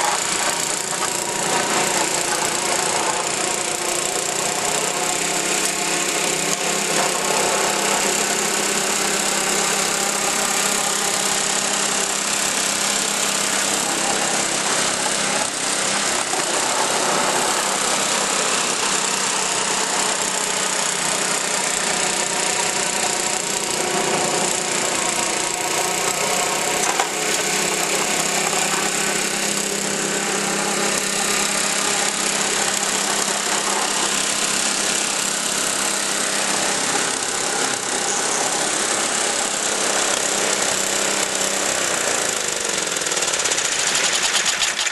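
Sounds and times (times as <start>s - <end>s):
snow blower engine running: 0.0s - 44.9s.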